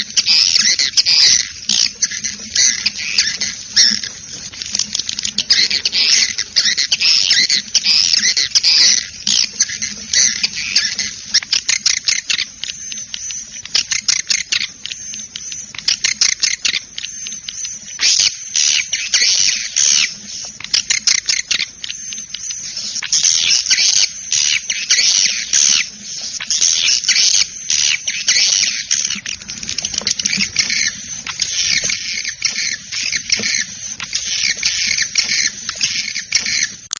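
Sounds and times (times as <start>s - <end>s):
swiftlets twittering: 0.0s - 36.9s.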